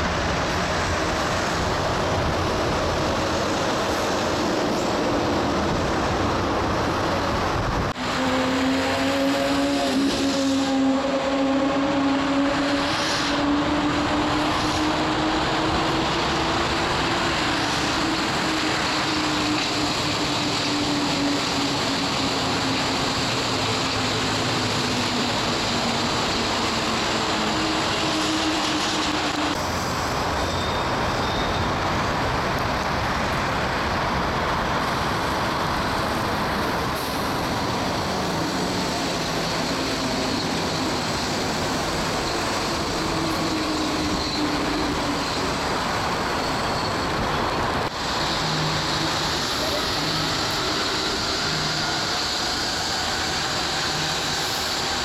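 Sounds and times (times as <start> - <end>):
train rolling rumble: 0.0 - 55.0.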